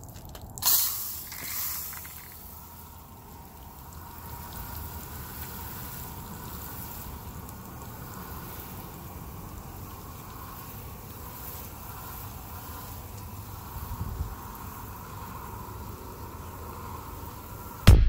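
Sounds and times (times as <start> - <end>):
water hissing from hose nozzle: 0.1 - 17.8.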